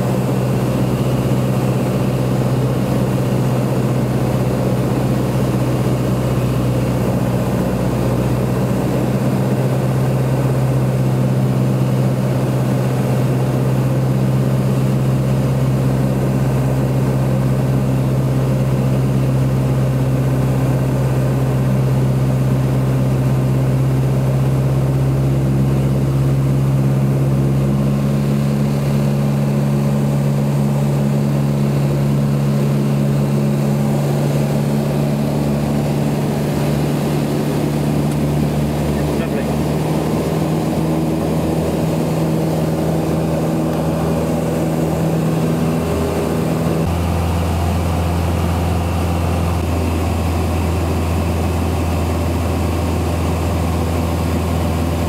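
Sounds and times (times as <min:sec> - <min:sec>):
light aircraft engine droning: 0:00.0 - 0:55.0.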